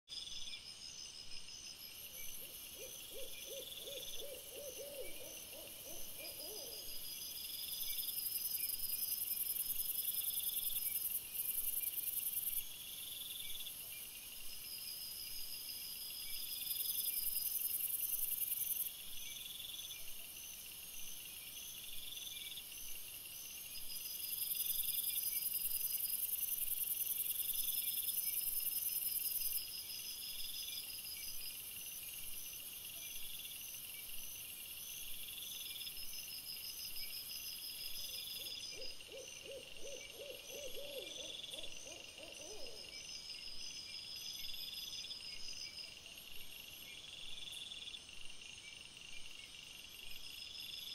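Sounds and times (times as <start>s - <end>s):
insects trilling: 1.8s - 50.9s.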